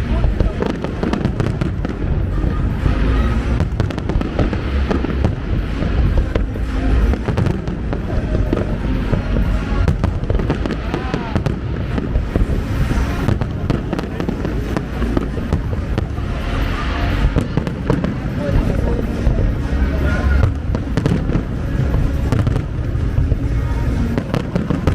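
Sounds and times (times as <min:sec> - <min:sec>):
background voices: 0:00.0 - 0:24.9
fireworks bangs and crackles: 0:00.0 - 0:24.9
low booming rumble: 0:00.0 - 0:24.9.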